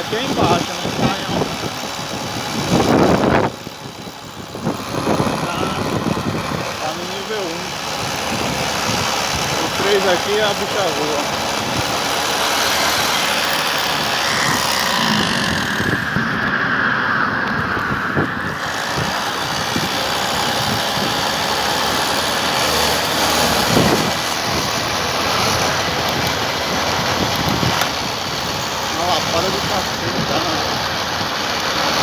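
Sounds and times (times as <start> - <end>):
wind buffeting microphone: 0.0 - 9.9, 11.3 - 21.6, 23.3 - 31.6
electric motor whine: 0.0 - 32.0.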